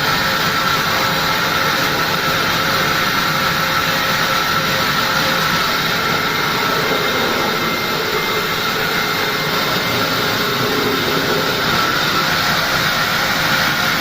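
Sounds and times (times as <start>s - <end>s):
sawmill saw whining: 0.0s - 14.0s.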